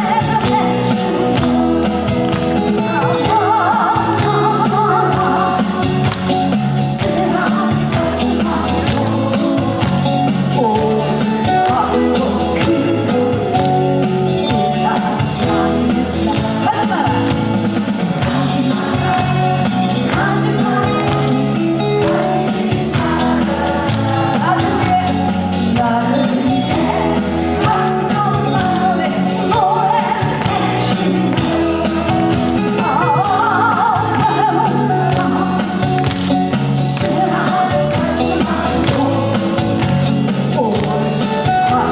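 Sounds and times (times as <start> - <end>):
music with steady beat: 0.0 - 41.9
woman singing: 0.0 - 41.9.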